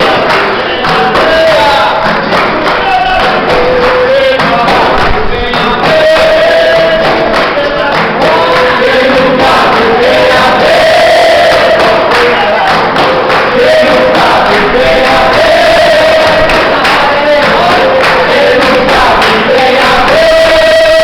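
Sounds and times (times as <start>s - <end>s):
group singing: 0.0s - 21.0s
rhythmic percussion: 0.0s - 21.0s.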